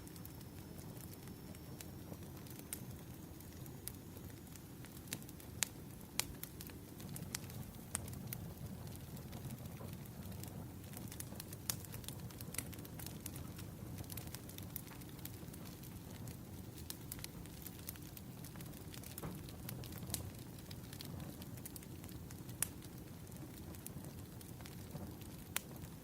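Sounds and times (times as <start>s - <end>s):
firewood crackling and popping: 0.0s - 26.0s
rumble of flames: 0.0s - 26.0s.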